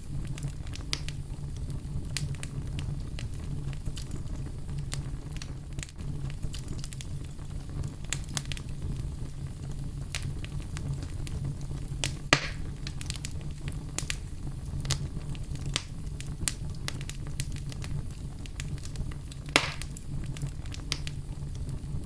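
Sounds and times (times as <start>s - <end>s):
fire burning with low rumble: 0.0s - 22.0s
logs crackling and popping: 0.0s - 22.0s.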